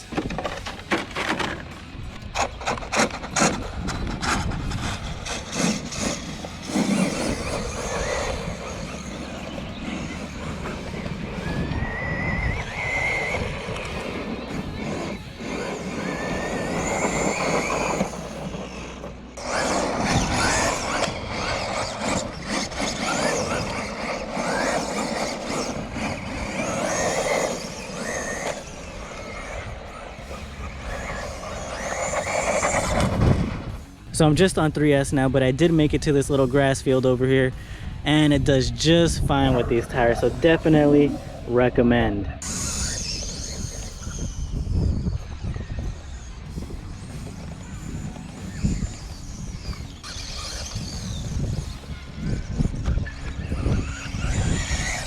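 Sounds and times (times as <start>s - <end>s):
electric motor whining: 0.0s - 35.0s, 37.5s - 55.0s
tires spinning over gravel: 0.0s - 55.0s.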